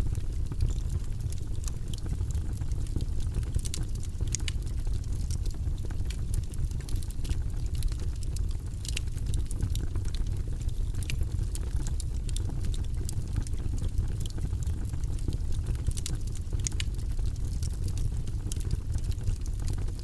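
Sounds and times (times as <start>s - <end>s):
fire flames roaring: 0.0s - 20.0s
logs crackling and popping: 0.0s - 20.0s.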